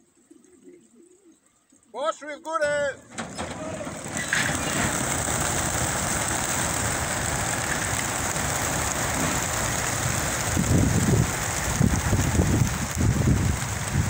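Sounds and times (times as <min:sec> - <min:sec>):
pigeon wings clattering: 0:02.7 - 0:14.0.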